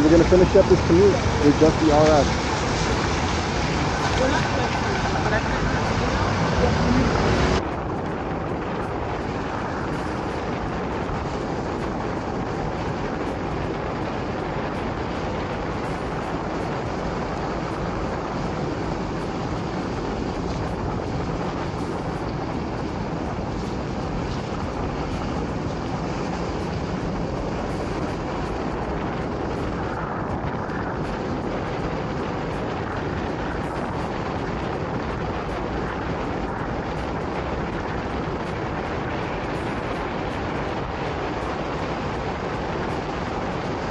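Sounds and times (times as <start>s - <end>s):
tyre noise on wet road: 0.0s - 43.9s
wind over microphone: 0.0s - 43.9s.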